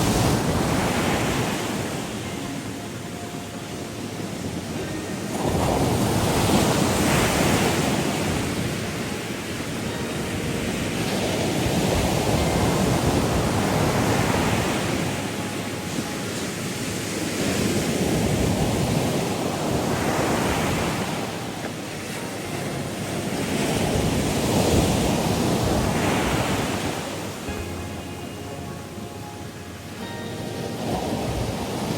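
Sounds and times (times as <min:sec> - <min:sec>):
ocean waves washing in: 0:00.0 - 0:31.9.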